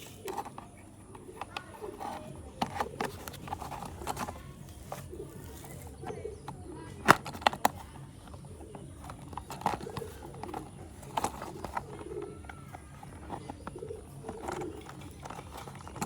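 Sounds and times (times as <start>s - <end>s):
bird calling: 0.0s - 16.0s
plastic clicks and knocks: 0.0s - 16.0s.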